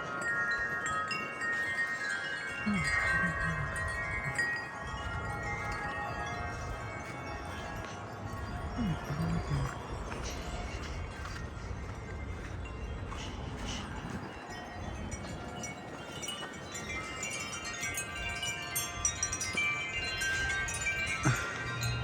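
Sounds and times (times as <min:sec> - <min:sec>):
wind chimes ringing: 0:00.0 - 0:22.0
wind rumble on microphone: 0:02.6 - 0:22.0.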